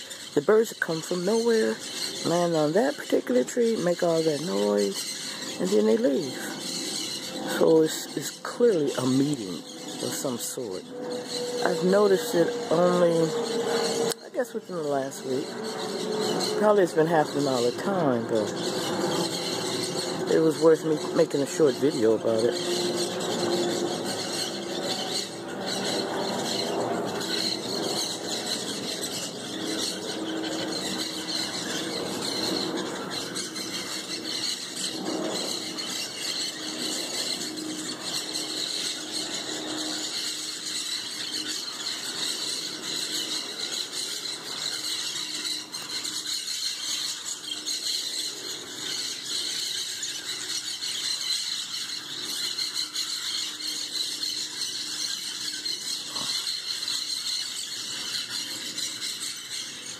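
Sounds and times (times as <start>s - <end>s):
parrots squawking and screeching: 0.0s - 59.9s.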